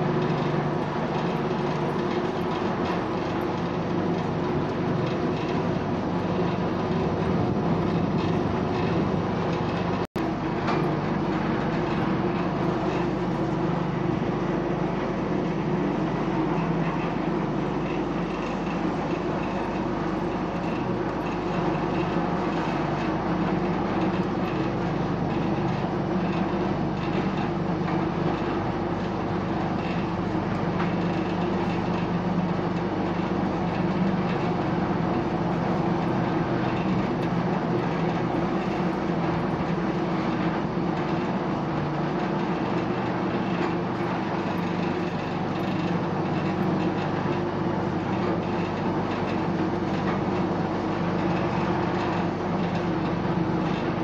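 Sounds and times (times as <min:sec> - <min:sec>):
vibrating table humming and rattling: 0:00.0 - 0:54.0.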